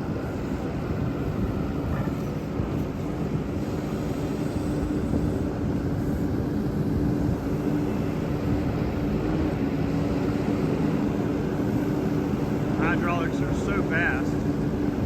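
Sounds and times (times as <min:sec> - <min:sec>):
diesel engine running steadily: 0:00.0 - 0:15.0.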